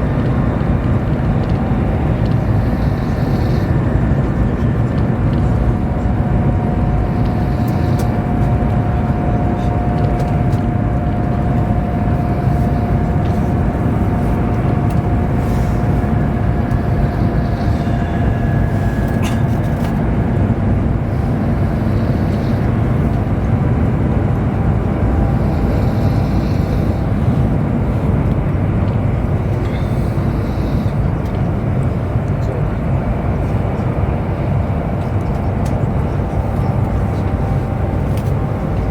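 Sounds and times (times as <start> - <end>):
train rumbling at speed: 0.0 - 38.9.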